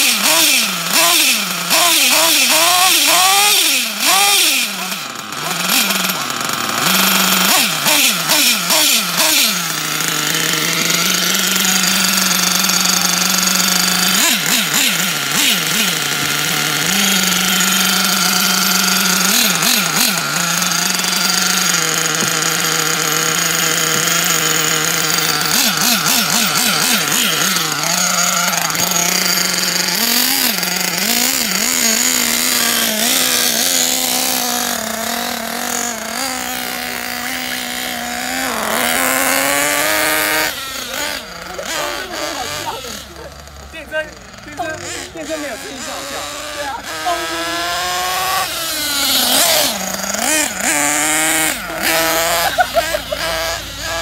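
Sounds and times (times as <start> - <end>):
small nitro engine revving: 0.0 - 54.0.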